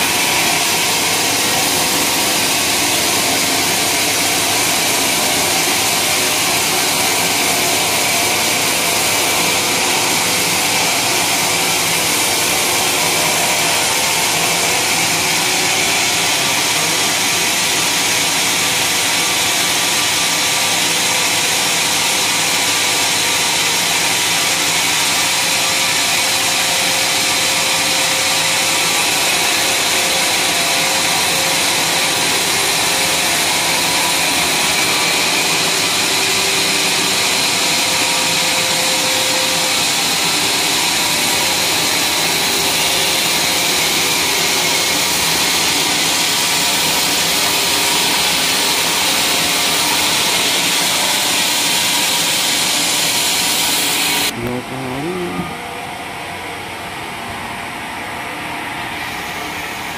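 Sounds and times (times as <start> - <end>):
saw blade whining through wood: 0.0 - 55.6.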